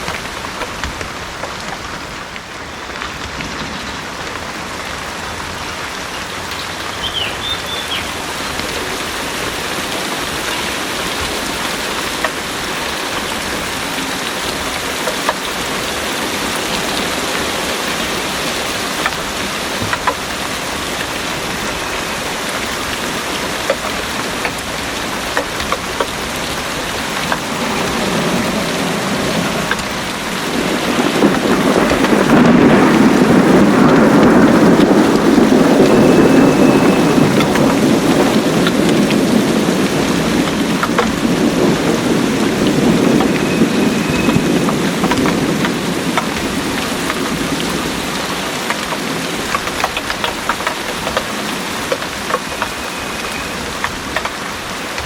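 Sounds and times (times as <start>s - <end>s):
heavy rain: 0.0s - 55.0s
raindrops ticking: 0.0s - 55.0s
thunder rolling: 8.0s - 55.0s.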